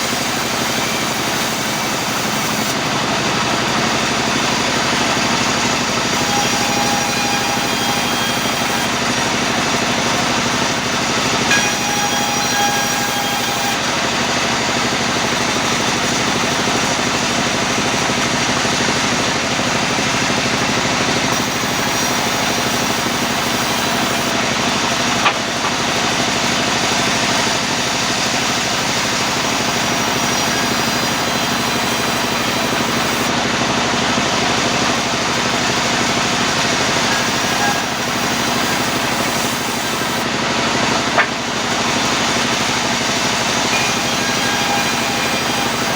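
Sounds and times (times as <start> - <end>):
sawmill machinery humming: 0.0 - 45.9.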